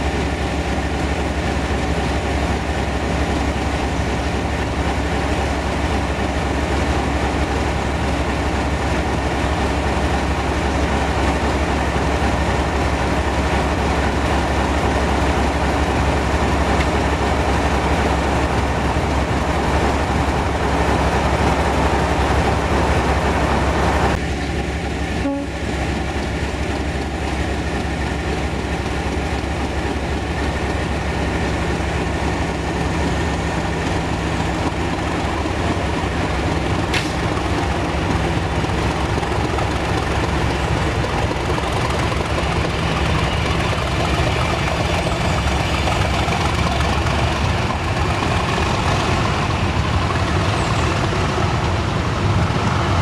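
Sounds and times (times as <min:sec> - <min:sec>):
train wheel and rail rumble: 0:00.0 - 0:53.0.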